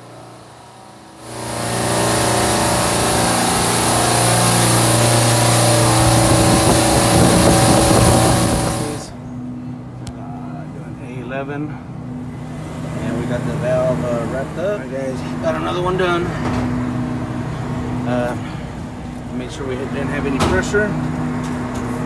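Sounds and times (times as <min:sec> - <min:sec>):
compressor machine hum and hiss: 0:00.0 - 0:22.0.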